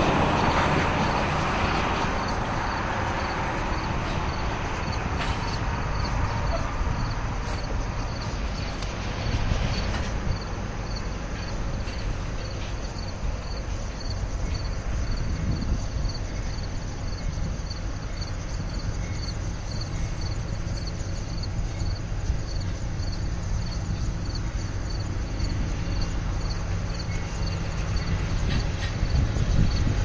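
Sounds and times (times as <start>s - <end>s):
locomotive engine drone: 0.0s - 30.0s
insect chirping: 1.7s - 30.0s.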